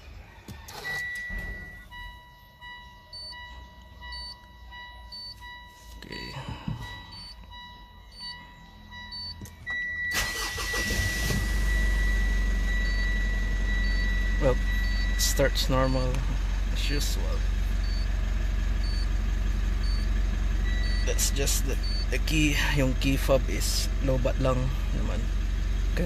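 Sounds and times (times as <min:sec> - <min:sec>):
diesel engine cranking and idling: 0:00.0 - 0:26.0
dashboard warning chime beeping: 0:00.4 - 0:25.3.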